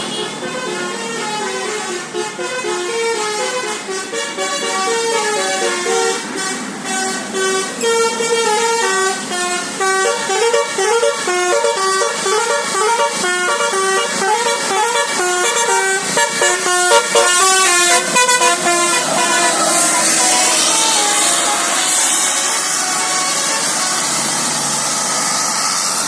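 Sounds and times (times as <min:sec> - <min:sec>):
musical bus horn melody: 0:00.0 - 0:26.0.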